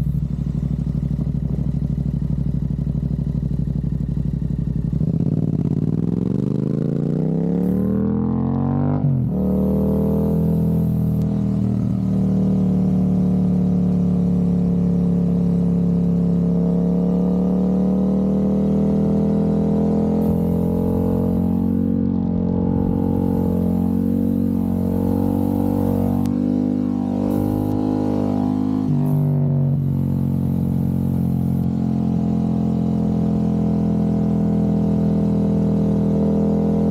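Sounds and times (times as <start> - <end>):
motorcycle engine ride-by: 0.0 - 36.9.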